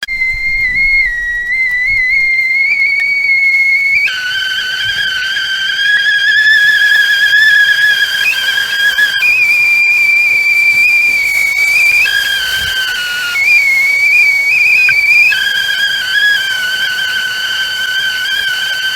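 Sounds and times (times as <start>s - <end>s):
teapot whistling: 0.0s - 18.9s.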